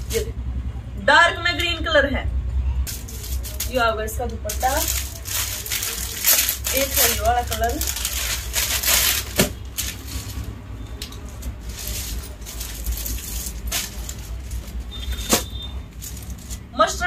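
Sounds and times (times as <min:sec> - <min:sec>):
plastic packaging crinkling: 0:02.9 - 0:16.7.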